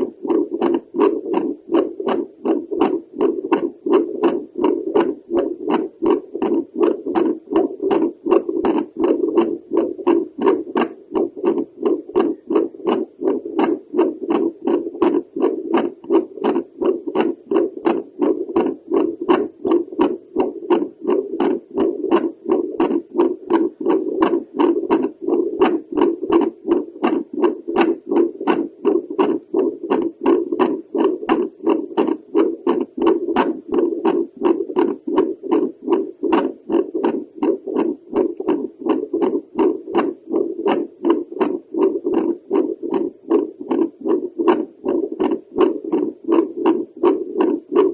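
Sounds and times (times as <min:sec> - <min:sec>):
continuous hum: 0:00.0 - 0:47.9.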